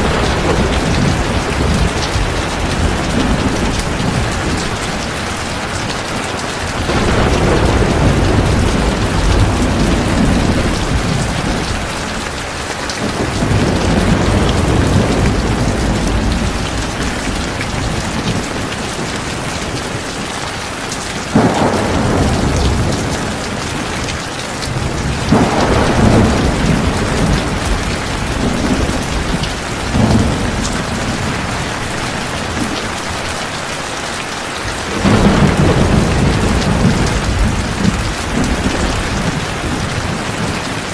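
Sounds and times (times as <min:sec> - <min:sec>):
thunder rolling: 0:00.0 - 0:20.2, 0:21.3 - 0:33.4, 0:34.6 - 0:40.9
heavy rain falling: 0:00.0 - 0:40.9.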